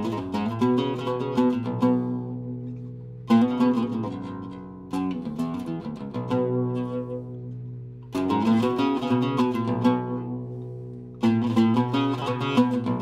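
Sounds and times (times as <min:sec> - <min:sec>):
oud plucked notes: 0:00.0 - 0:13.0.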